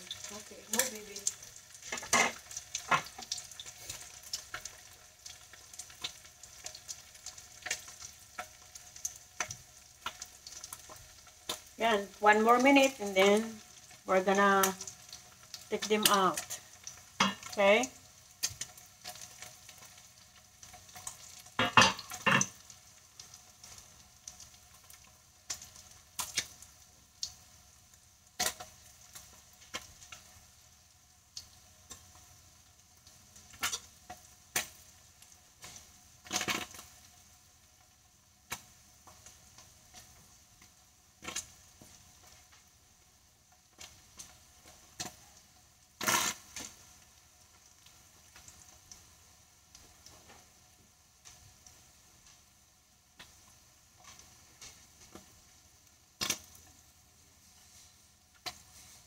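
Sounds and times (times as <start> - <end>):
meat sizzling in oil: 0.0 - 59.0.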